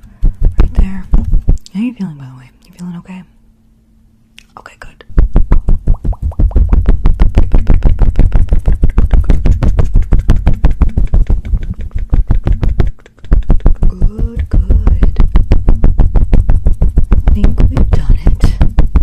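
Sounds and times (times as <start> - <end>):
strokes on microphone with thuds: 0.0 - 1.6, 5.0 - 19.0.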